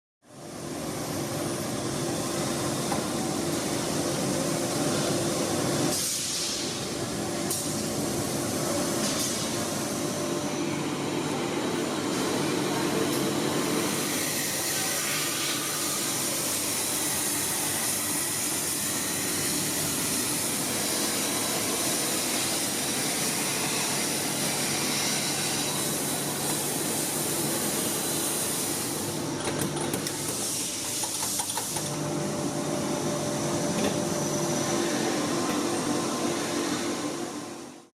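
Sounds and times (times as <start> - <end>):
industrial vacuum cleaner running: 0.4 - 37.9.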